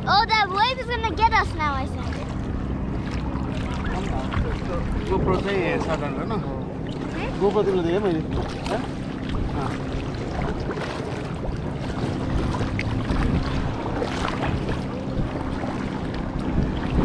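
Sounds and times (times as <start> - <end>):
kayak paddles splashing: 0.0 - 17.0
steady low hum: 0.0 - 17.0
water lapping: 0.0 - 17.0
wind on microphone: 3.3 - 17.0.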